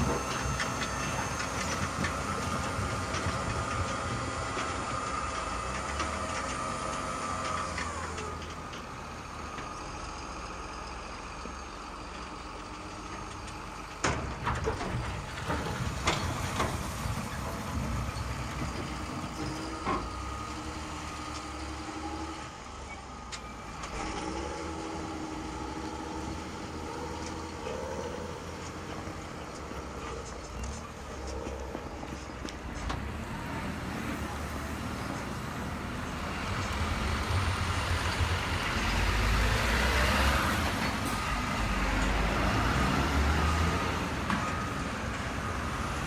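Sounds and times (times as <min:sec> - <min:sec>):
hydraulic pump whine: 0:00.0 - 0:46.0.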